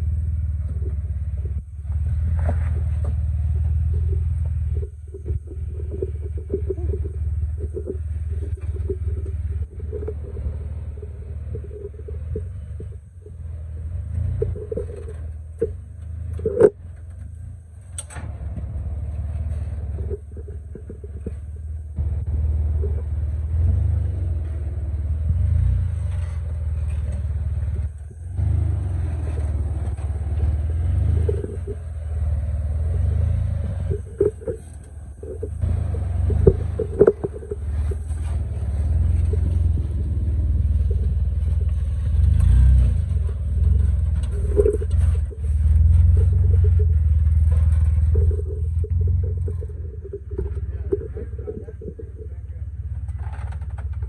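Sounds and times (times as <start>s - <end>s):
deep engine rumble: 0.0s - 54.0s.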